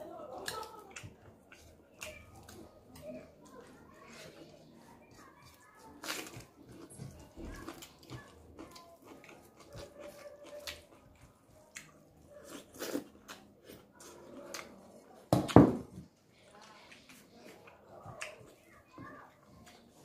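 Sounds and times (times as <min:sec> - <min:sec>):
wet chewing: 0:00.3 - 0:15.2, 0:16.4 - 0:20.0.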